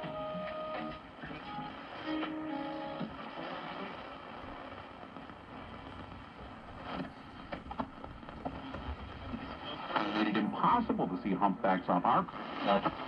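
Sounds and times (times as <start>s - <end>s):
radio static hiss: 0.0s - 13.0s
radio station snatches: 1.2s - 13.0s.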